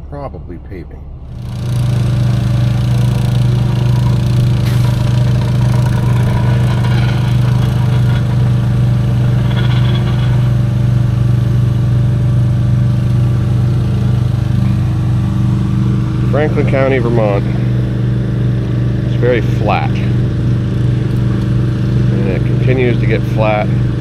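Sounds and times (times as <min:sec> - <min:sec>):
heavy machine engine humming: 0:00.0 - 0:24.0.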